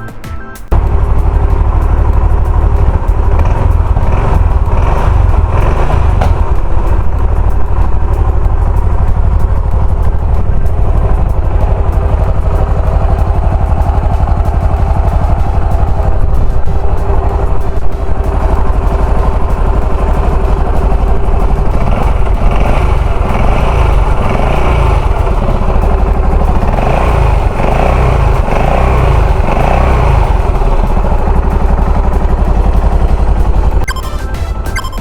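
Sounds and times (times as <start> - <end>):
music: 0.0 - 35.0
motorcycle engine revving: 0.7 - 33.9.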